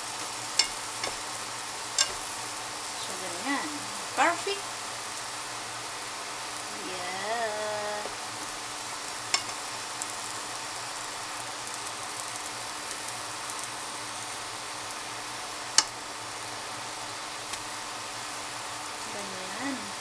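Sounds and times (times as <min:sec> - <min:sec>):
pancake sizzling in oil: 0:00.0 - 0:20.0.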